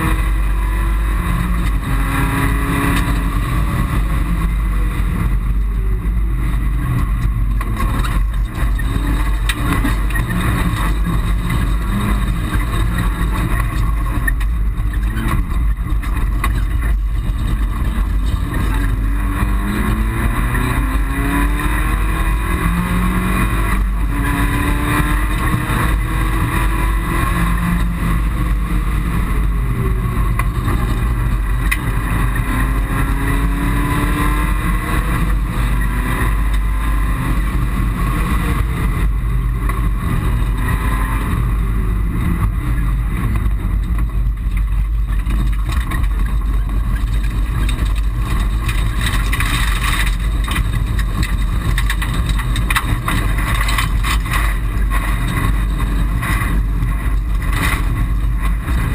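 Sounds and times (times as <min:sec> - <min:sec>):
rally car engine revving: 0:00.0 - 0:58.9
road noise: 0:00.0 - 0:58.9.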